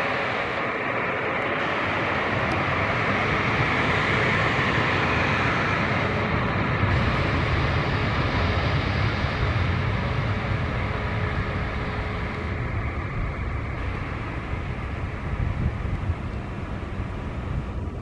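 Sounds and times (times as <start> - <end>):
jet engines hissing and whining: 0.0 - 18.0.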